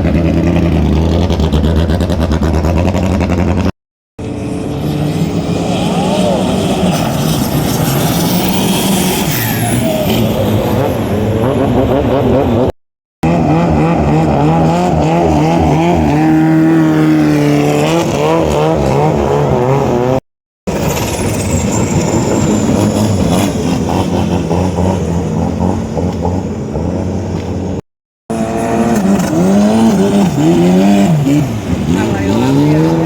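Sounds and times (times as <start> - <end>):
boat engines revving: 0.0 - 33.0.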